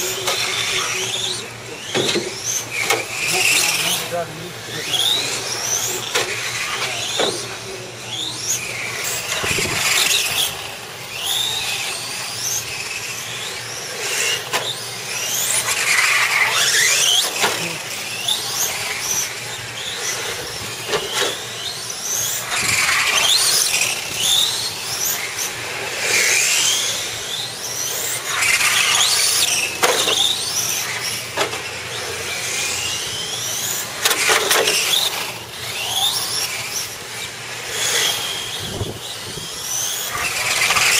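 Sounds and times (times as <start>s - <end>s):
rc car motors whining: 0.0s - 40.9s
tyres squealing on concrete: 0.0s - 40.9s.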